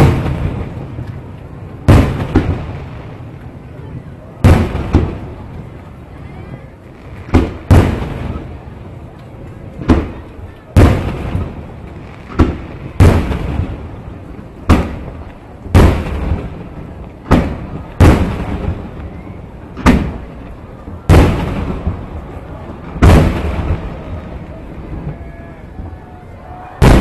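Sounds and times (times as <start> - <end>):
echo of booms: 0.0 - 5.9, 6.9 - 9.0, 9.7 - 27.0.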